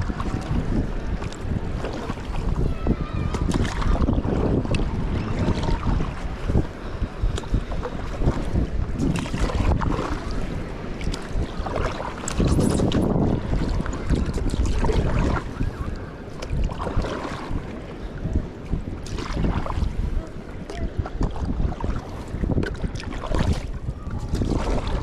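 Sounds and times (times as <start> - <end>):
water splashing from paddling: 0.0 - 25.0
wind rumbling on microphone: 0.0 - 25.0.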